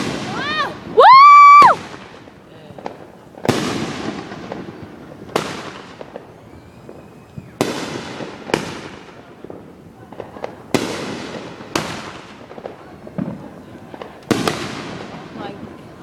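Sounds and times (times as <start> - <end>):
fireworks bangs: 0.0 - 16.0
fireworks pops and crackles: 0.0 - 16.0.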